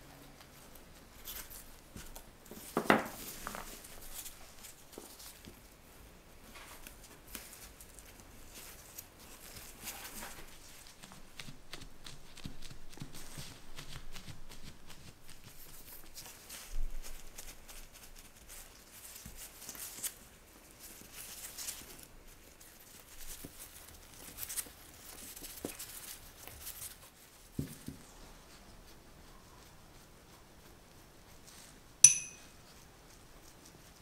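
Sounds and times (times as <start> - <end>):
disposable gloves rustling: 0.2 - 29.3.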